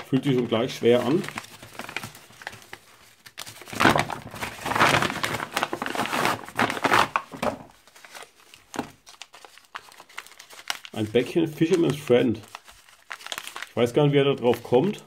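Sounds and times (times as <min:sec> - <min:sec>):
paper mailer crinkling: 0:00.0 - 0:15.0.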